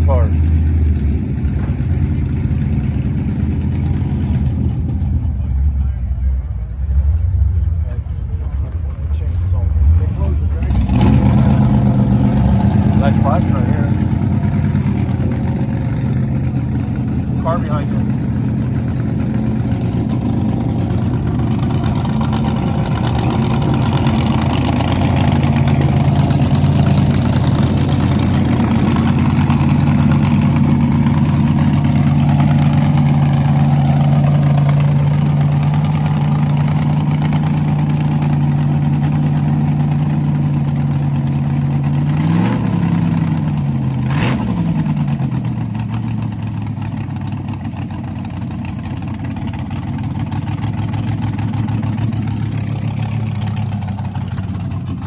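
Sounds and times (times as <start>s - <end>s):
car engine idling: 0.0s - 55.0s
engine throttle blips: 0.0s - 55.0s.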